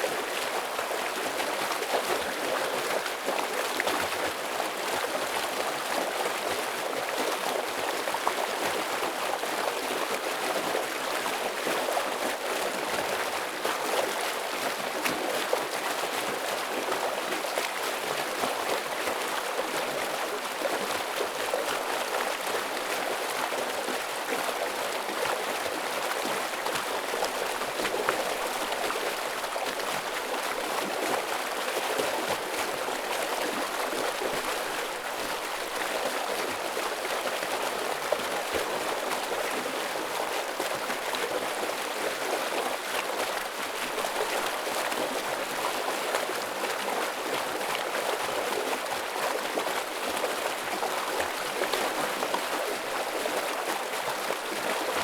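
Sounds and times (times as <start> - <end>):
heavy water stream flowing: 0.0 - 55.0.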